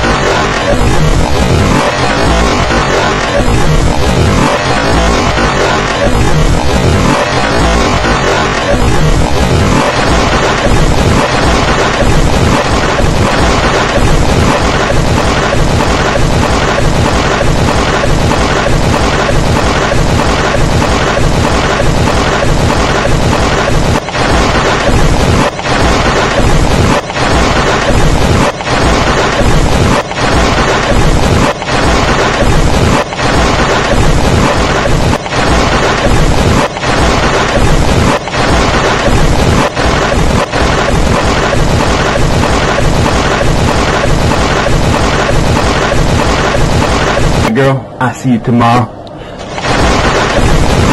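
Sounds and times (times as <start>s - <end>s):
loud distorted music: 0.0s - 47.8s, 49.4s - 50.9s.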